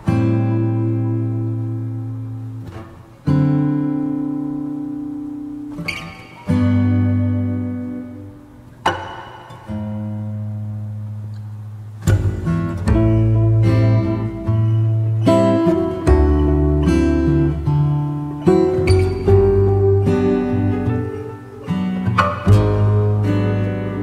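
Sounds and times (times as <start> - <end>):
acoustic guitar slow chords: 0.0 - 24.0.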